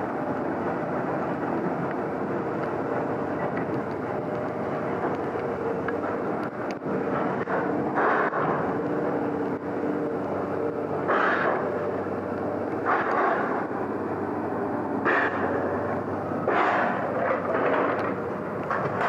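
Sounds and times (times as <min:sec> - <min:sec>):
heavy machine engine surging: 0:00.0 - 0:19.0.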